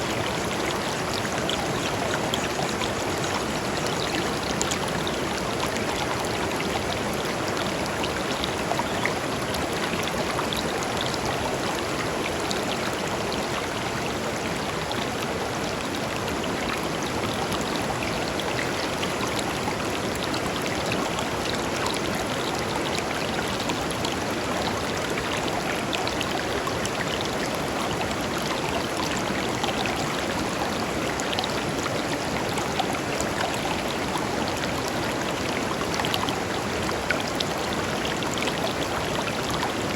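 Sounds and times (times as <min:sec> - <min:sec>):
shallow river flowing over stones: 0:00.0 - 0:39.9.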